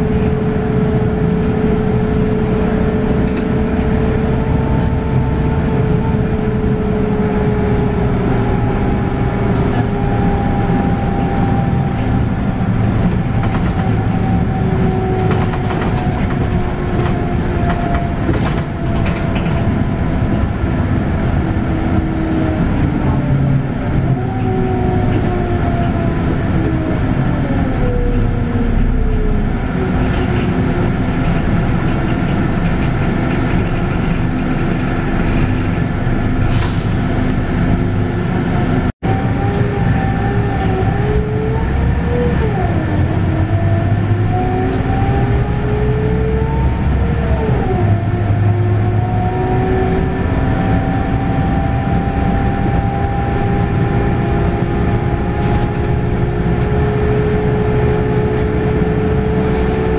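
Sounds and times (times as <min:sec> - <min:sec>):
diesel engine and road rumble: 0:00.0 - 0:59.9
bus gearbox whine: 0:01.5 - 0:20.4, 0:24.4 - 0:59.9.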